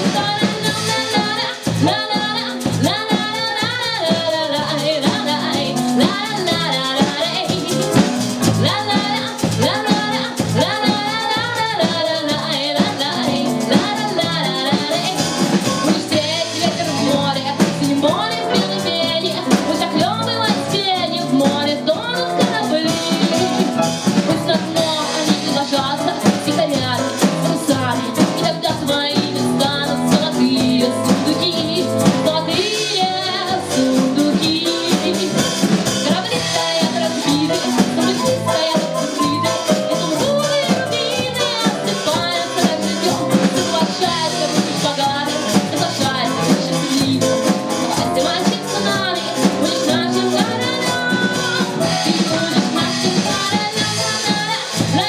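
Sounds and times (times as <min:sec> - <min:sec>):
drums: 0:00.0 - 0:55.0
electric bass: 0:00.0 - 0:55.0
electric keyboard: 0:00.0 - 0:55.0
woman singing: 0:00.0 - 0:55.0.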